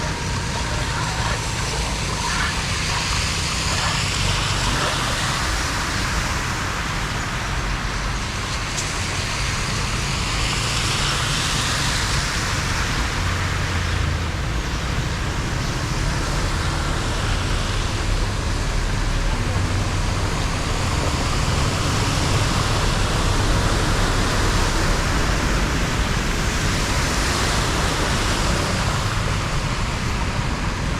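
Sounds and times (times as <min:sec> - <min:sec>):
water rushing into drain: 0:00.0 - 0:30.8.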